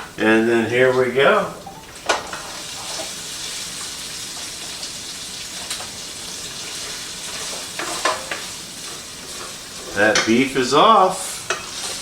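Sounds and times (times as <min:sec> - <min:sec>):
meat sizzling in a frying pan: 0:01.9 - 0:12.0.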